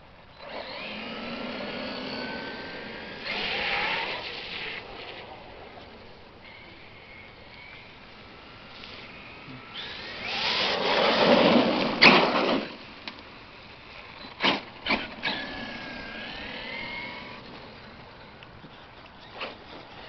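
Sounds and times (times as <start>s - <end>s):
small motorized vehicle whine: 0.0s - 20.0s.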